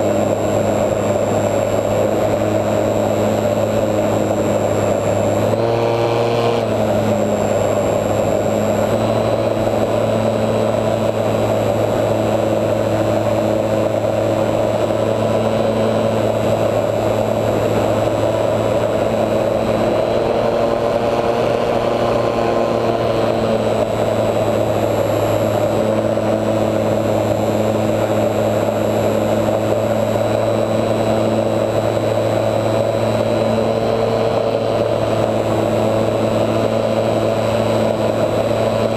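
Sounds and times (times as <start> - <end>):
electric motor and propeller: 0.0 - 38.9.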